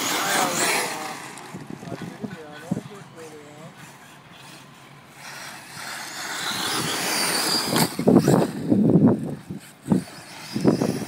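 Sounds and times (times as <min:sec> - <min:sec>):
rc car motor whine: 0:00.0 - 0:11.0.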